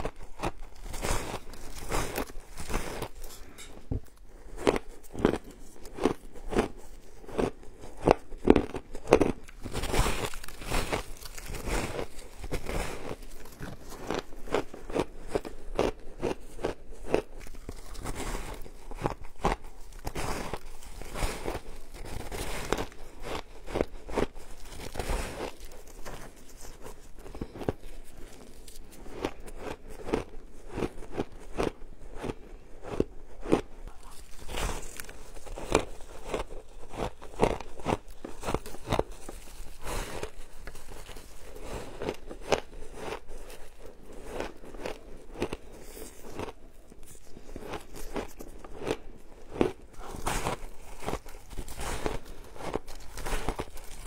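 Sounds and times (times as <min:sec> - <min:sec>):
chewing crunchy shaved ice: 0:00.0 - 0:54.0.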